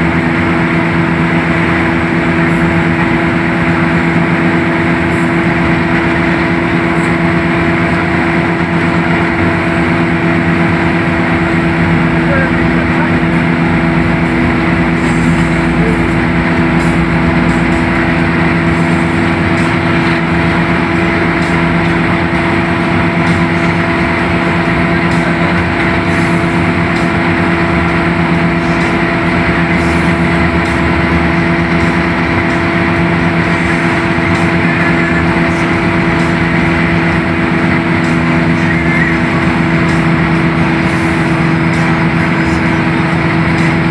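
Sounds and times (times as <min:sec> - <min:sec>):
bus diesel engine droning: 0:00.0 - 0:43.9
tyre and road noise: 0:00.0 - 0:43.9.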